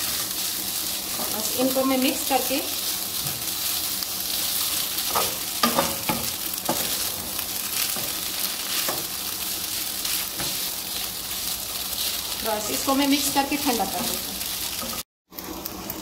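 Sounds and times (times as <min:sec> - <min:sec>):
spatula stirring food: 0:00.0 - 0:15.0
food sizzling in oil: 0:00.0 - 0:16.0.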